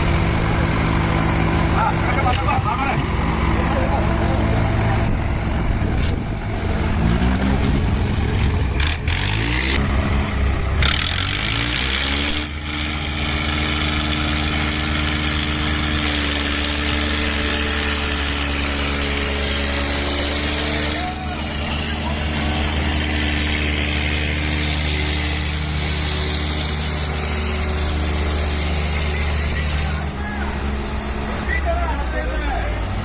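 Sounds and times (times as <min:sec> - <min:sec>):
tractor diesel engines straining: 0:00.0 - 0:33.0.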